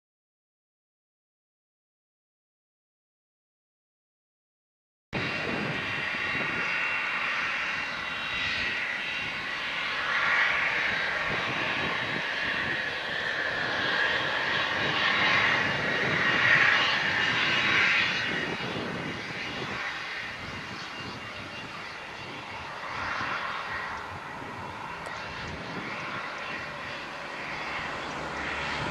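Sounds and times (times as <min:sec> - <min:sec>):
jet engines taxiing: 0:05.2 - 0:28.9.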